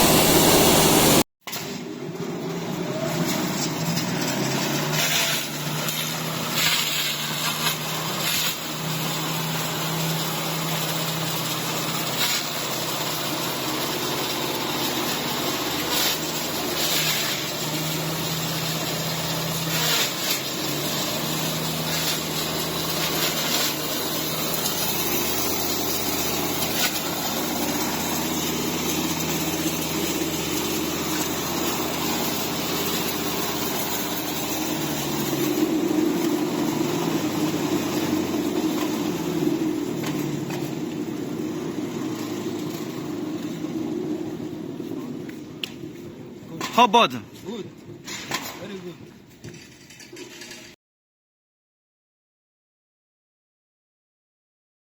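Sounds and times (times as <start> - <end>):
corn grinder running: 0.0 - 45.8.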